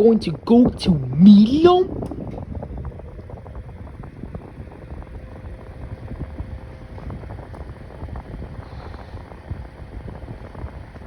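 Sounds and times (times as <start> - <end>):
box fan air rush: 0.0 - 11.0
faint fan hum: 0.0 - 11.0.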